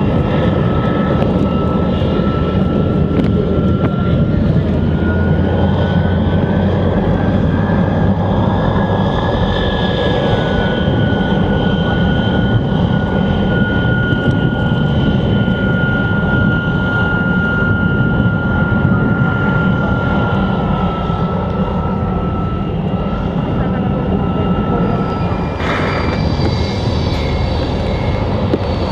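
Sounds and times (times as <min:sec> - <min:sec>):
jet engine idling with whine: 0:00.0 - 0:28.9.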